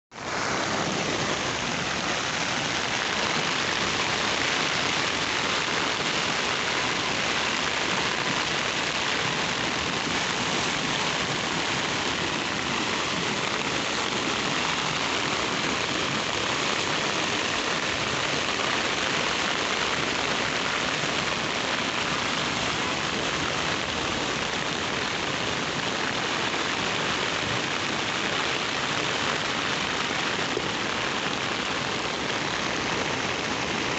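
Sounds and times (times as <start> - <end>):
heavy rain downpour: 0.0 - 33.9
floodwater rushing over pavement: 0.1 - 33.9.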